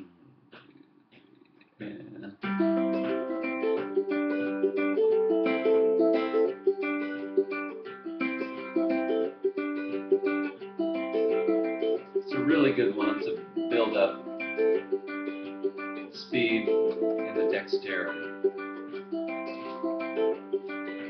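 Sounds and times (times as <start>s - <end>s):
ukulele fingerpicked: 0.0s - 21.0s.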